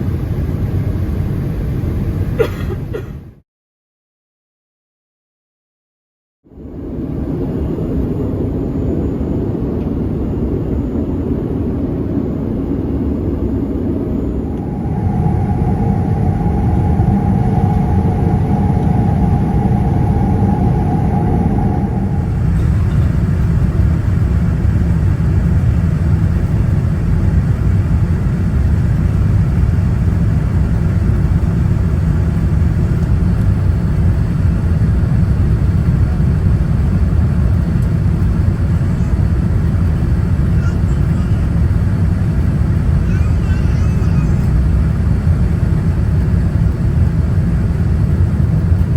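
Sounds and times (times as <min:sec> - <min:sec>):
airliner cabin engine rumble: 0:00.0 - 0:03.4, 0:06.5 - 0:48.9
mid-pitched hum: 0:06.5 - 0:48.9.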